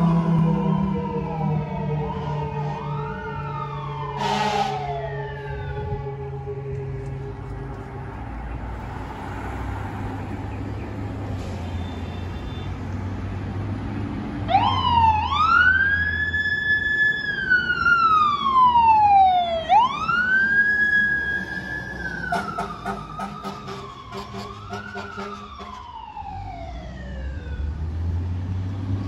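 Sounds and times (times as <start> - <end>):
fire truck siren wailing: 0.0 - 10.1, 14.1 - 29.0
street traffic: 0.0 - 29.0
truck engine rumble: 0.0 - 29.0.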